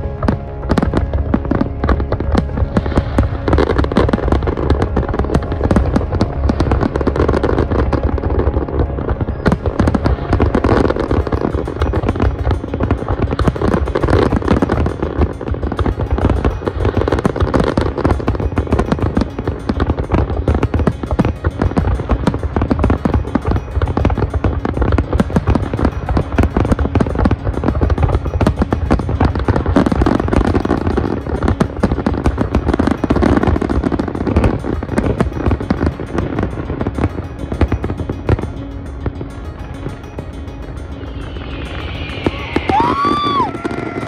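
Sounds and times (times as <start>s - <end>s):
background music: 0.0s - 44.0s
fireworks bursting and crackling: 0.0s - 44.0s.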